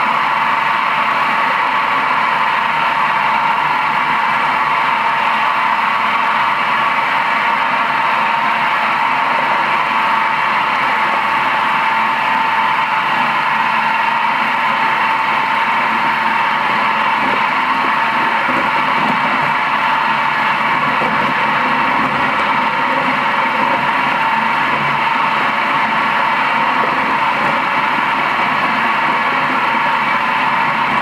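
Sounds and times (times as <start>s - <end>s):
bowl cutter machine whirring: 0.0s - 31.0s.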